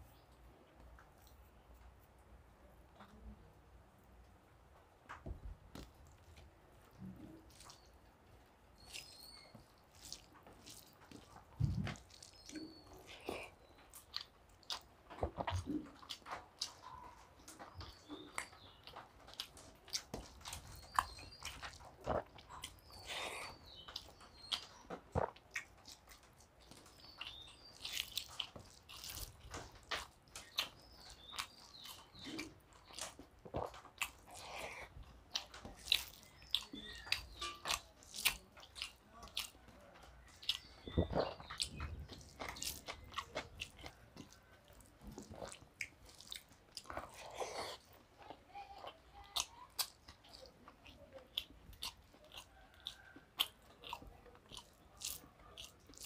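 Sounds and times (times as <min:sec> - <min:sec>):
man chewing food: 0:04.8 - 0:56.0.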